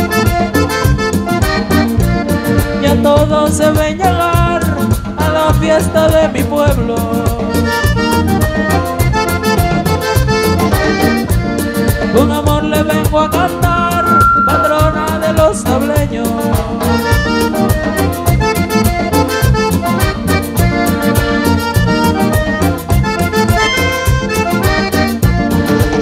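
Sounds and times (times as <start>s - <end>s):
button accordion playing: 0.0s - 6.2s, 7.4s - 15.7s, 16.8s - 26.0s
bass and percussion beat: 0.0s - 26.0s.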